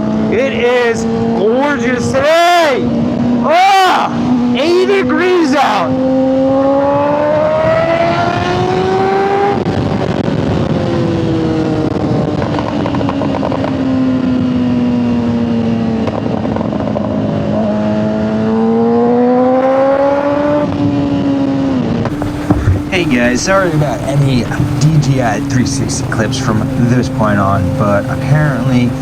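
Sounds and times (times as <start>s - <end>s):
motorcycle engine at high revs: 0.0s - 2.2s, 2.8s - 3.4s, 4.1s - 5.2s, 5.8s - 29.0s.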